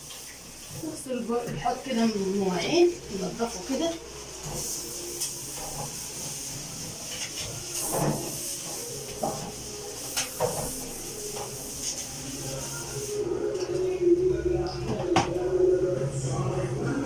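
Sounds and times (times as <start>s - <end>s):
sponge scrubbing metal sink: 0.0s - 13.8s.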